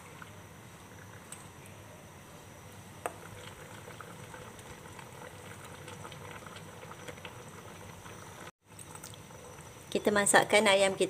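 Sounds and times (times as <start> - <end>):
liquid bubbling in a pot: 0.0 - 11.0.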